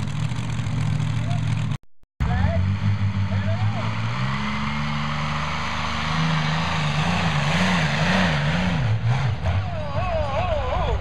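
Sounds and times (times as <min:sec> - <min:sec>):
tractor engine at full throttle: 0:00.0 - 0:11.0.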